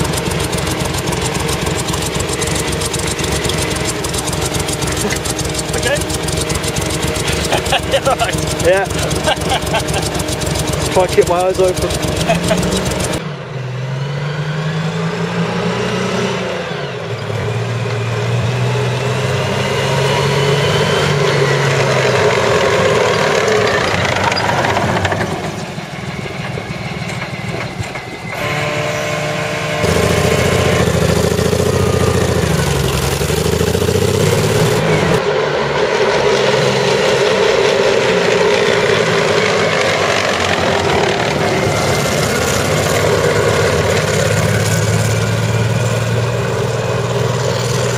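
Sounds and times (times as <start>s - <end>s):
misfiring engine revving: 0.0s - 47.9s.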